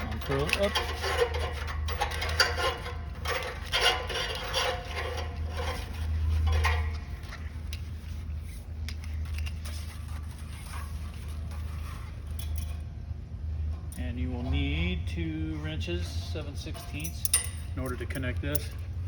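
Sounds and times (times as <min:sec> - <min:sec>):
oxygen line being handled: 0:00.0 - 0:14.8, 0:15.7 - 0:19.0
steady low hum: 0:00.0 - 0:19.0.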